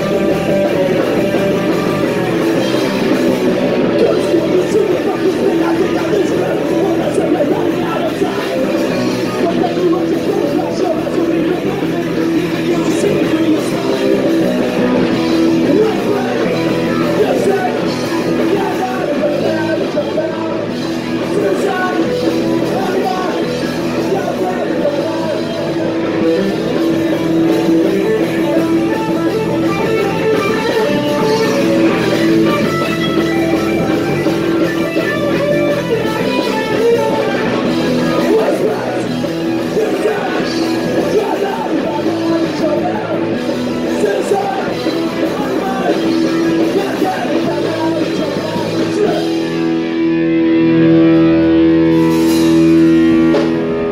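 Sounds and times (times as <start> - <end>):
electric guitar: 0.0 - 53.9
punk rock band playing: 0.0 - 53.9.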